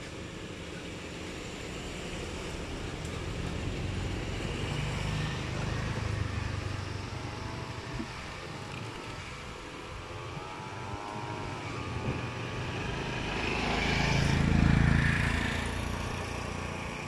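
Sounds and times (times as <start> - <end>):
outdoor background noise: 0.0 - 17.0
vehicle engine rumble passing: 0.8 - 17.0.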